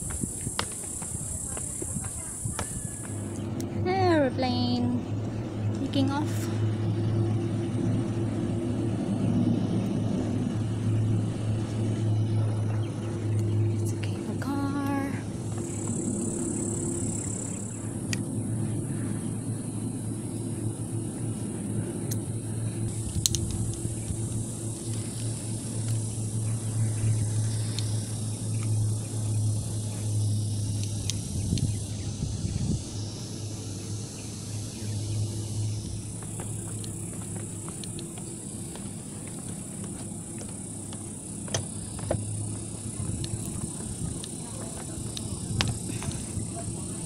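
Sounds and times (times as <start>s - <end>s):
distant airliner taking off: 0.0s - 47.0s
high steady buzz: 0.0s - 47.0s.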